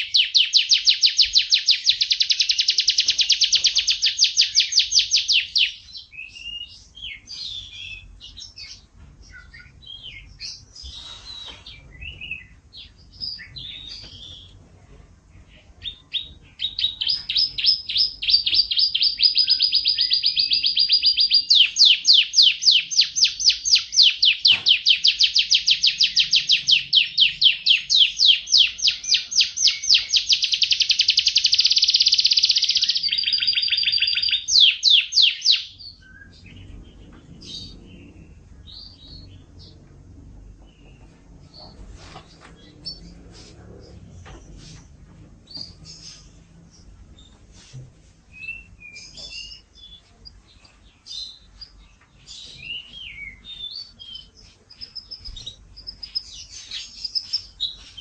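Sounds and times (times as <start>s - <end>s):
canary singing trills: 0.0s - 14.6s, 15.4s - 44.7s, 48.3s - 58.0s
canary chirps and warbles: 0.0s - 58.0s.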